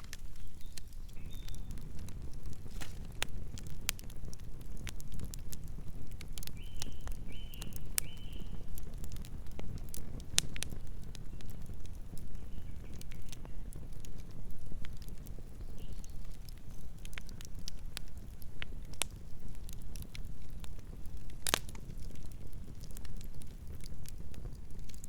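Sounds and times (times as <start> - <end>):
campfire crackling and popping: 0.0 - 25.0
fire low rumble: 0.0 - 25.0.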